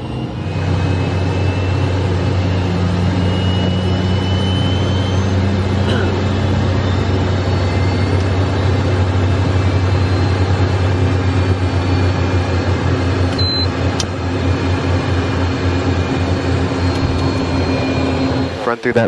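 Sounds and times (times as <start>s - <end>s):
faint high whine: 0.0s - 13.8s, 15.3s - 19.0s
jet engines droning: 0.0s - 19.0s.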